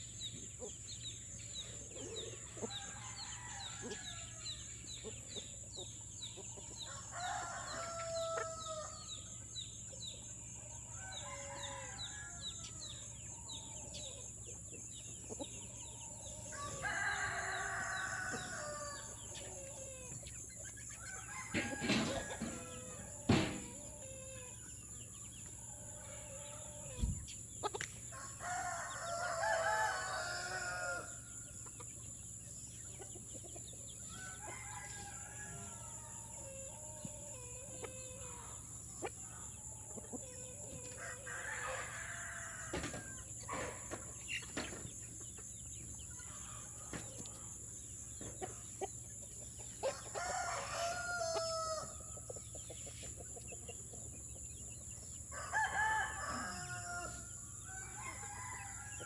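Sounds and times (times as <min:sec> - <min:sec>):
roosters crowing: 0:00.0 - 0:48.7, 0:49.6 - 0:52.5, 0:54.4 - 0:59.0
chickens clucking: 0:00.0 - 0:59.0.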